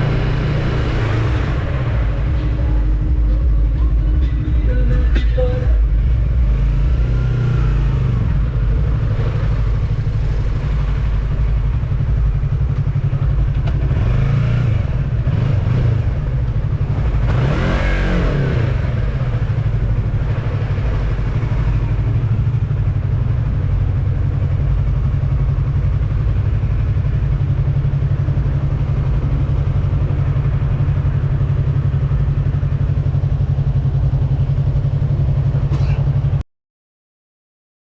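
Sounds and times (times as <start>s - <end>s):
motorcycle engine running: 0.0s - 36.4s.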